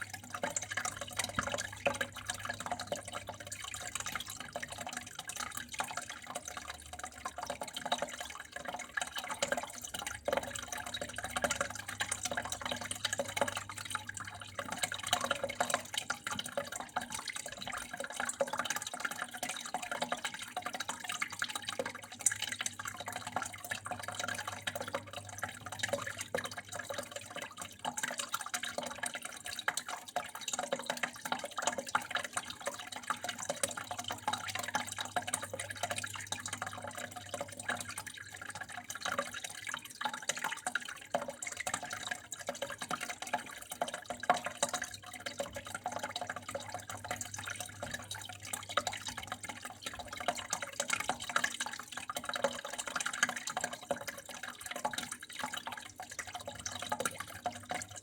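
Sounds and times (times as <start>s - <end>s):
water dripping and trickling: 0.0s - 58.0s.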